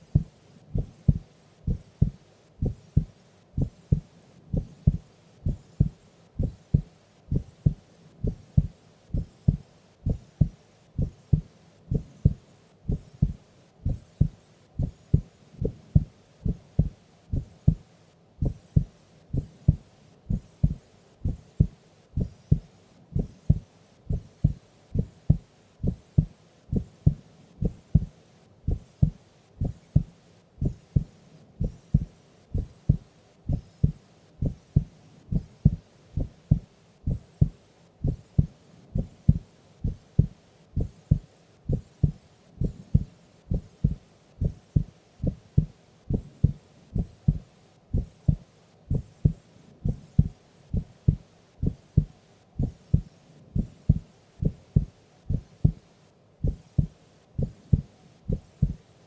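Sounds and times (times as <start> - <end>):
heartbeat thumps: 0.0 - 55.8, 56.4 - 58.8.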